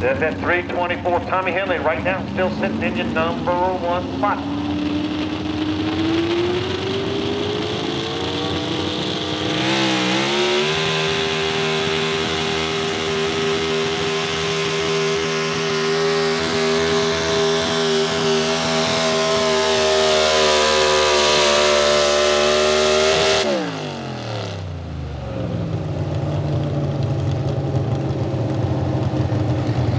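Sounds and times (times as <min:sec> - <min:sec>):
truck engine revving: 0:00.0 - 0:29.9.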